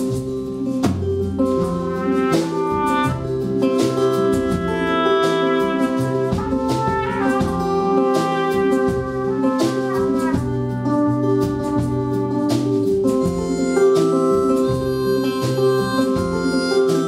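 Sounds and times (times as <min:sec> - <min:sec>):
live country band playing: 0:00.0 - 0:17.0
steady drum beat: 0:00.0 - 0:17.0.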